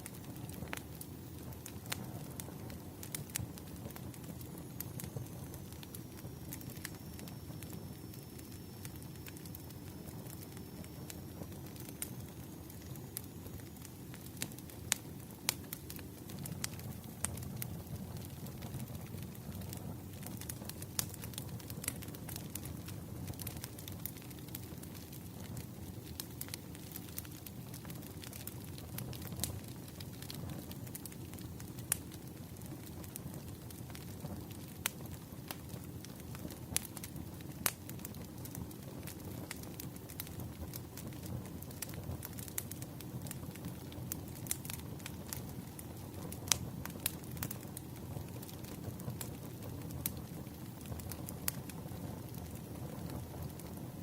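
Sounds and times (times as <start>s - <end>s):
crackles and pops of burning wood: 0.0s - 54.0s
low rumble of flames: 0.0s - 54.0s.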